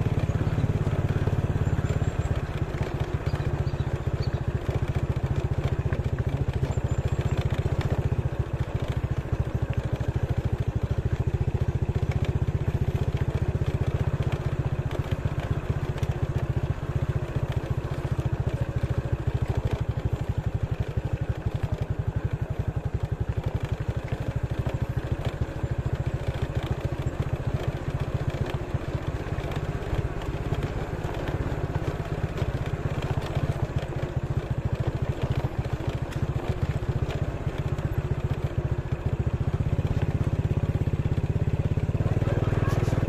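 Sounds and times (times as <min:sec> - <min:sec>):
small motorcycle engine running: 0:00.0 - 0:43.0.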